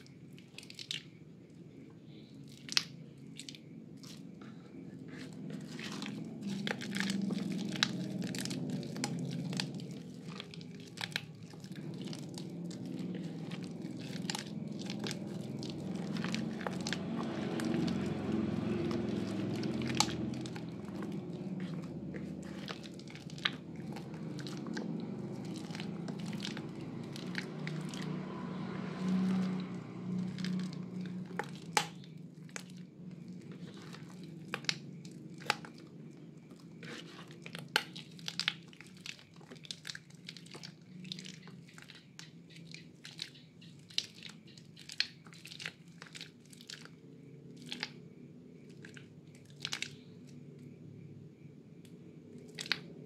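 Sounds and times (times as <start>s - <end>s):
wet soap squishing and crackling: 0.0s - 50.6s, 51.8s - 53.0s.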